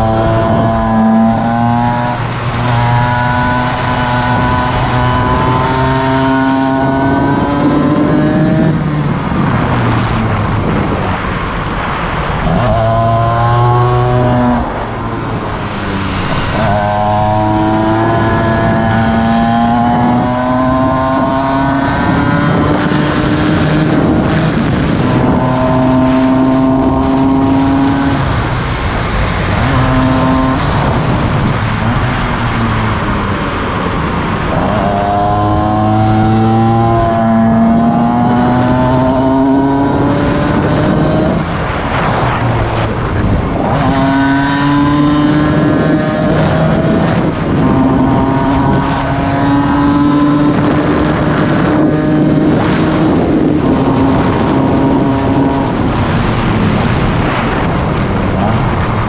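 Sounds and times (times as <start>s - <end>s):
two-stroke motorcycle engine accelerating: 0.0s - 59.0s
wind rush on microphone: 0.0s - 59.0s.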